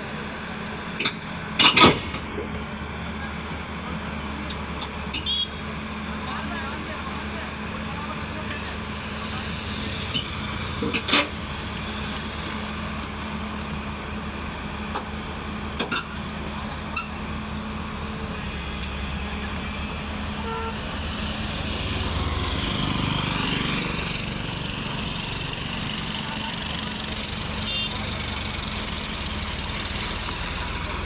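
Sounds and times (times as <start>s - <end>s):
excavator diesel engine: 0.0s - 31.0s.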